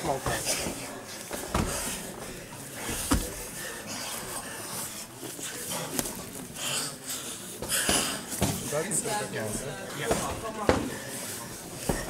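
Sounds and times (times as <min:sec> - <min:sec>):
hard breathing: 0:00.0 - 0:12.0.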